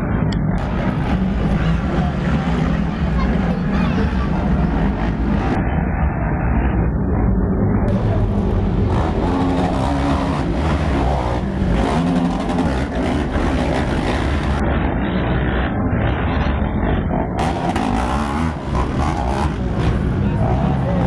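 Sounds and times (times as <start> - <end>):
quad bike engines revving: 0.0 - 21.0.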